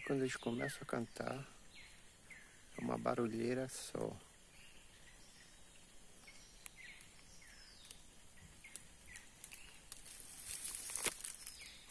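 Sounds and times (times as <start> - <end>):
faint bird chirps: 0.0 - 10.7
leaves rustling: 0.0 - 11.9.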